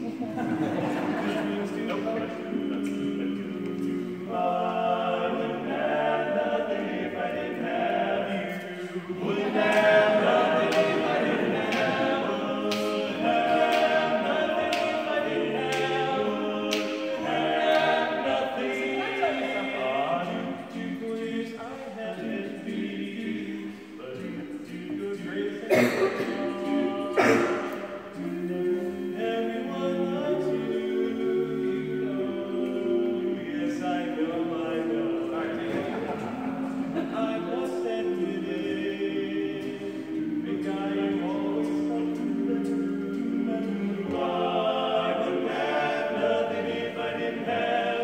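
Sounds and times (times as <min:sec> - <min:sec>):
male quartet singing a cappella: 0:00.0 - 0:48.0.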